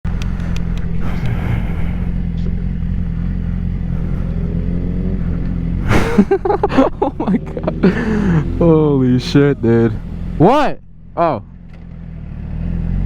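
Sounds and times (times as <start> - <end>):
motorcycle engine running: 0.0 - 13.0
faint rising whine: 0.1 - 11.2.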